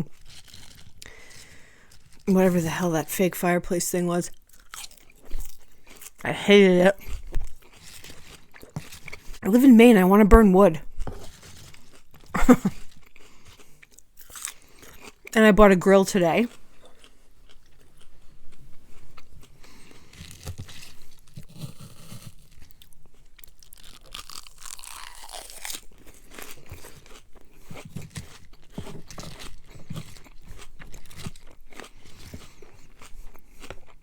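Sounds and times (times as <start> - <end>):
close chewing of soft food: 0.0 - 2.8, 4.3 - 10.0, 10.8 - 15.4, 16.4 - 34.0.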